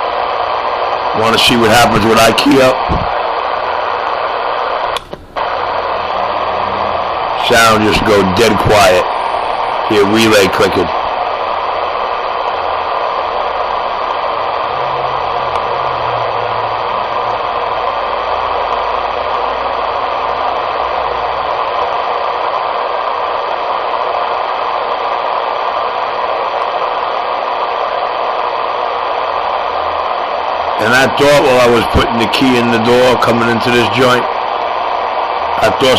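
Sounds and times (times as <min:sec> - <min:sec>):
radio static hiss: 0:00.0 - 0:35.9.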